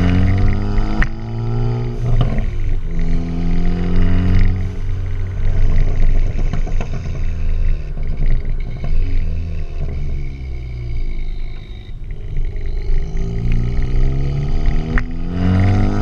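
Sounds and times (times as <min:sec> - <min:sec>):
car engine: 0:00.0 - 0:16.0
exhaust popping and crackling: 0:00.0 - 0:16.0.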